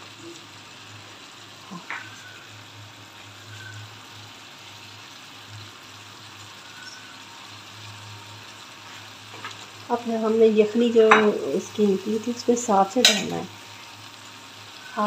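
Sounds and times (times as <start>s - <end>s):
curry sizzling in pot: 0.0s - 15.0s.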